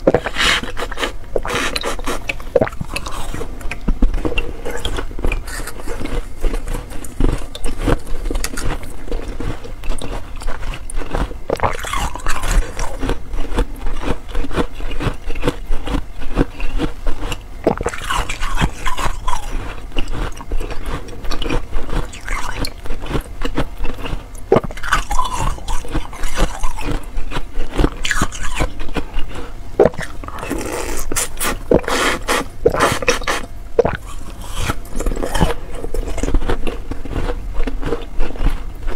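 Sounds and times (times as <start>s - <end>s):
ice crunching between teeth: 0.0s - 38.9s.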